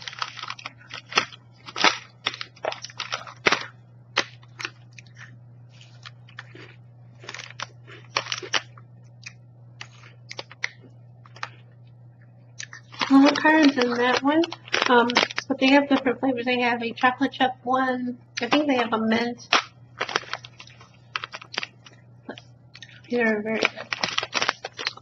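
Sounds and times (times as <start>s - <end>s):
chewing crunches: 0.0s - 11.8s, 12.6s - 15.5s, 19.4s - 25.0s
low steady hum: 0.0s - 25.0s.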